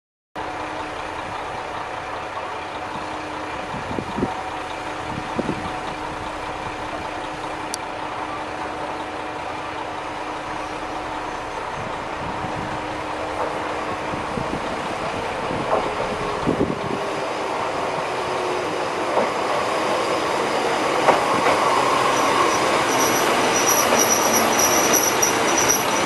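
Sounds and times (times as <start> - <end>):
diesel railcar engine hum: 0.4 - 26.0.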